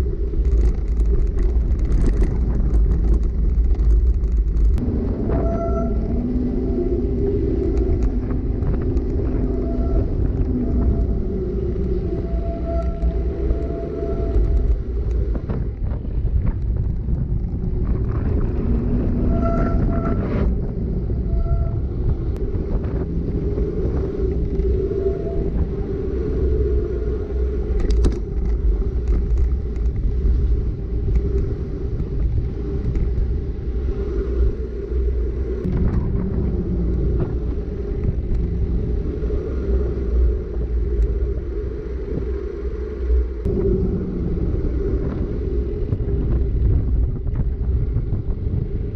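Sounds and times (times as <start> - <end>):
bike tyres rolling on asphalt: 0.0 - 48.9
wind on microphone: 0.0 - 48.9.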